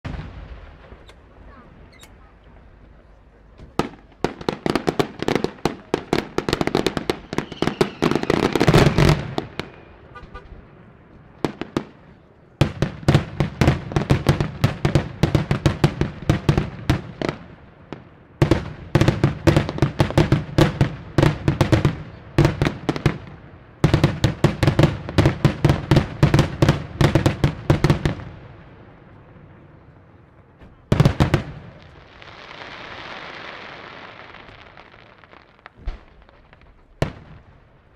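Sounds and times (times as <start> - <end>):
fireworks bangs: 0.0 - 37.9.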